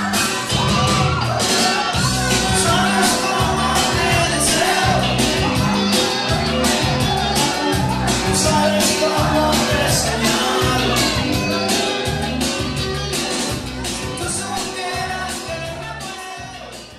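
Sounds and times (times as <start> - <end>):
loud party music with singing: 0.0 - 16.9.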